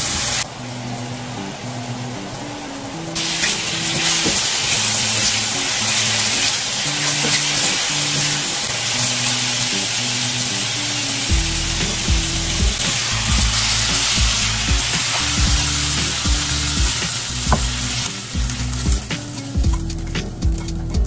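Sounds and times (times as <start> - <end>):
mushrooms sizzling in a skillet: 0.0 - 2.3, 3.1 - 21.0.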